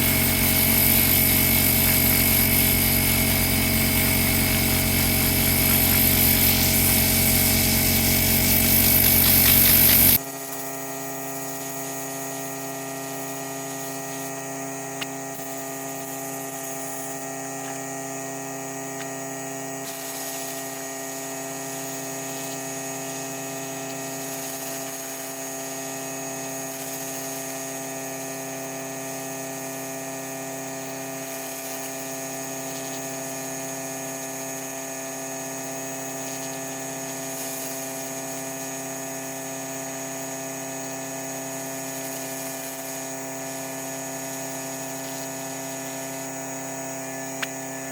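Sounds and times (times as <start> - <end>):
power tool motor running: 0.0 - 47.9
steady electrical hum: 0.0 - 47.9.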